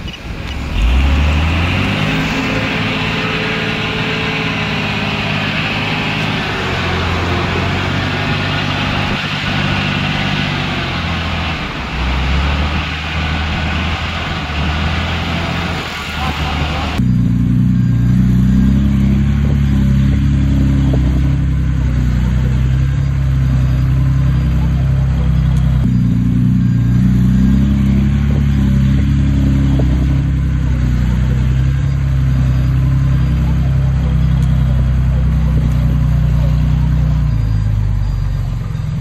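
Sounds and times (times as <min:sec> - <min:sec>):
heavy machinery diesel engine running: 0:00.0 - 0:39.0.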